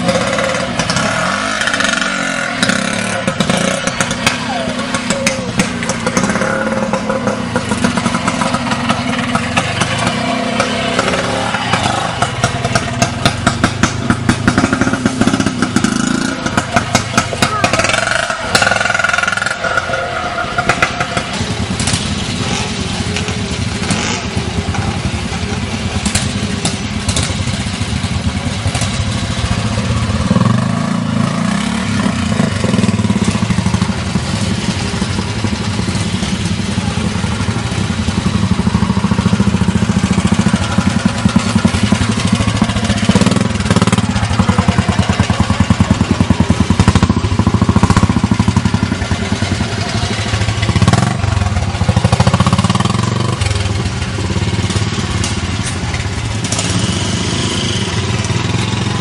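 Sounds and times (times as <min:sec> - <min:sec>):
motorcycle engine at low revs: 0:00.0 - 0:59.0.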